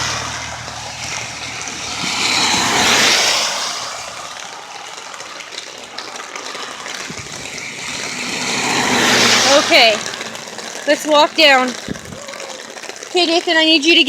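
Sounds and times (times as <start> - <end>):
tyres hissing on wet road: 0.0 - 14.0.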